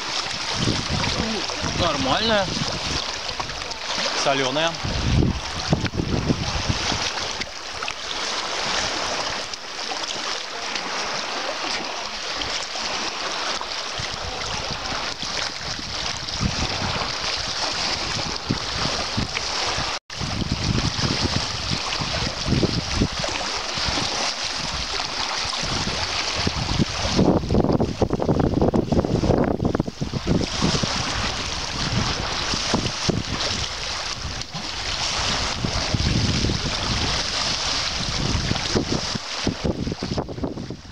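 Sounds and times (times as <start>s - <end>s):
wind buffeting microphone: 0.0s - 7.9s, 13.9s - 40.9s
waves lapping on rocky shore: 0.0s - 40.9s.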